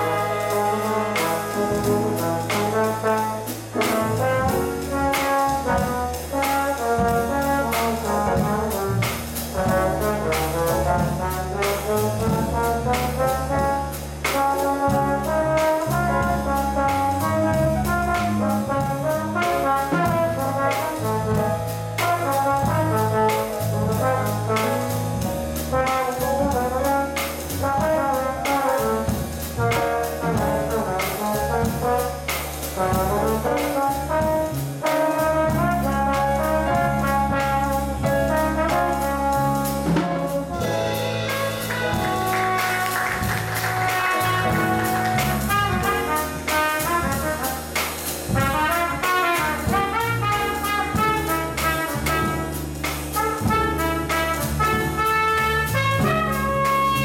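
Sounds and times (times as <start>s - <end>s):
drum kit cymbals: 0.0s - 57.0s
electric bass: 0.0s - 57.0s
piano: 0.0s - 57.0s
trombone melody: 0.0s - 57.0s.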